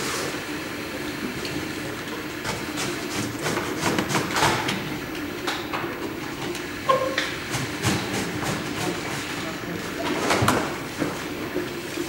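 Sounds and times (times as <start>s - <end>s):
printer humming: 0.0s - 12.0s.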